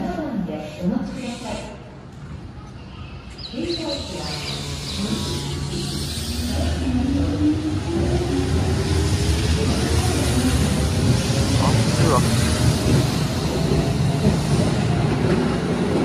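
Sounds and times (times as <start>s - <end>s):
wheels rumbling on rail: 2.1s - 16.0s.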